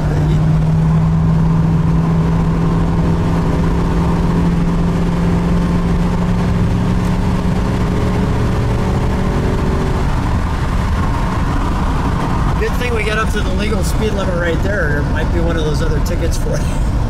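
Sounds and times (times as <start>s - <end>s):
car engine droning: 0.0s - 17.0s
road rumble: 0.0s - 17.0s.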